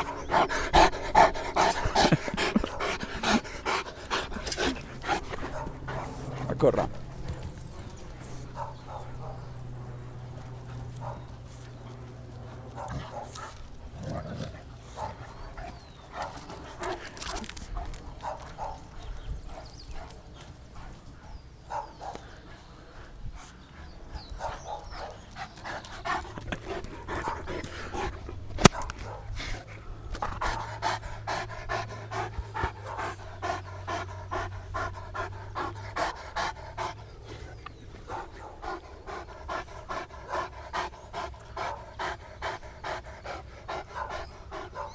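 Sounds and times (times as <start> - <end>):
dog panting: 0.0 - 14.0, 14.6 - 44.9.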